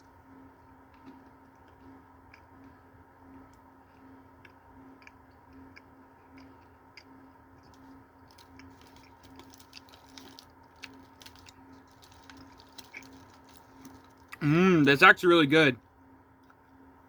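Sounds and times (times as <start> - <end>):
faint chewing and crunching: 0.0 - 16.9.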